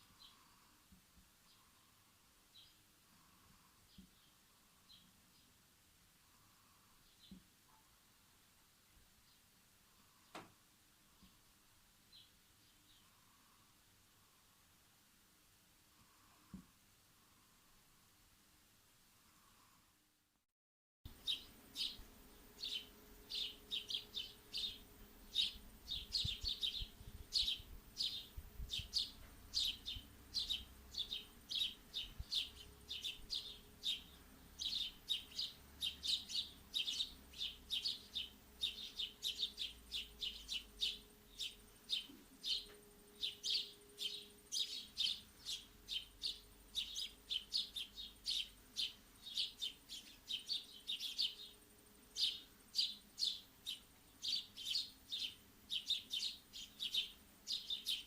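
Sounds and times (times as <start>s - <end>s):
small birds chirping: 0.0s - 5.6s, 6.2s - 8.0s, 9.1s - 14.6s, 21.1s - 58.0s.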